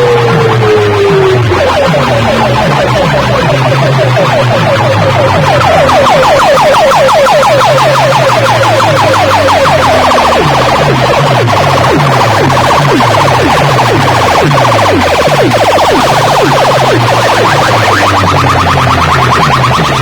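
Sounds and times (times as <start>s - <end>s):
falling electronic whoops: 0.0s - 20.0s
loud electronic dance track: 0.0s - 20.0s
pulsing bass line: 0.0s - 20.0s.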